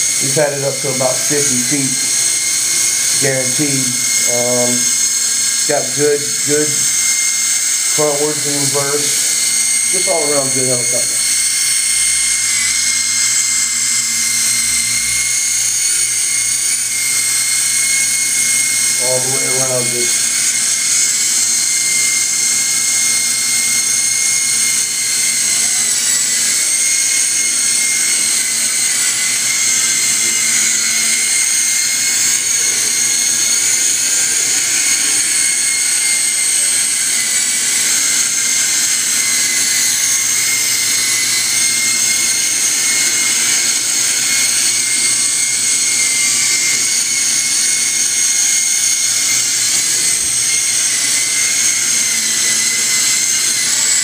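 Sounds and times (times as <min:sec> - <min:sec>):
toy helicopter rotor whine: 0:00.0 - 0:54.0.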